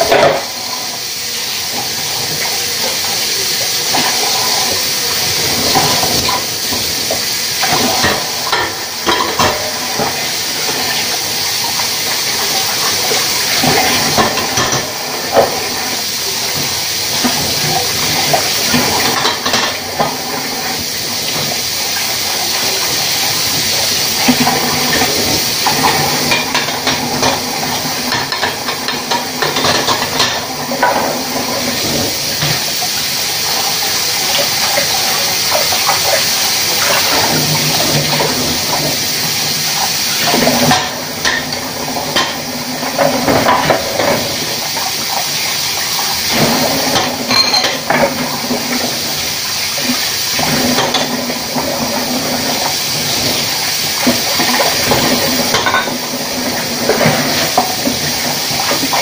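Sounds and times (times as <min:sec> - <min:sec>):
tap water running: 0:00.0 - 0:59.0.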